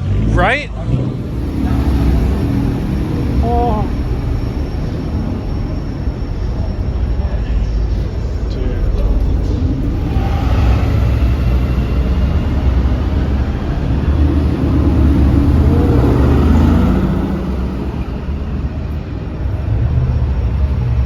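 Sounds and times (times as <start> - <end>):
car passing: 0.0 - 21.0
steady low rumble: 0.0 - 21.0.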